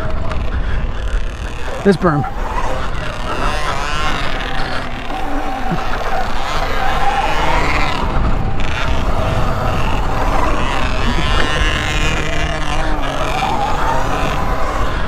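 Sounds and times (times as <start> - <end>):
electric dirt bike motor whine: 0.0 - 15.0.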